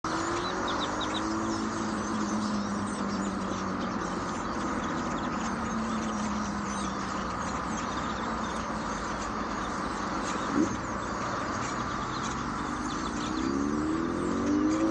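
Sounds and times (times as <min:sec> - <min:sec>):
flock of birds chirping: 0:00.0 - 0:14.9
low engine hum: 0:00.1 - 0:14.9.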